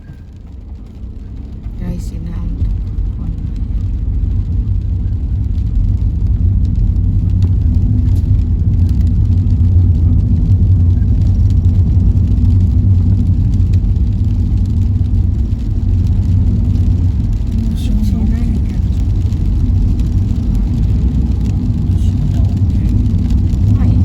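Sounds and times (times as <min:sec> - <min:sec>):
car cabin engine and tyre noise: 0:00.0 - 0:24.0.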